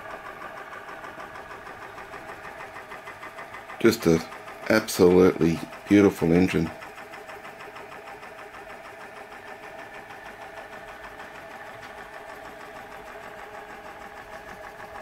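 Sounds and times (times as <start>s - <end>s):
stirling engine ticking: 0.0s - 15.0s.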